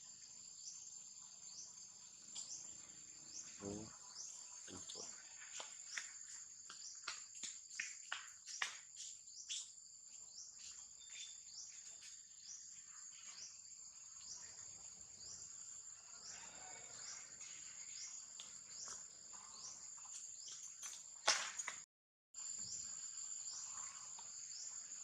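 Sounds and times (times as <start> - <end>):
insects droning: 0.0 - 21.8, 22.4 - 25.0
insects rising chirps: 0.0 - 21.8, 22.4 - 25.0.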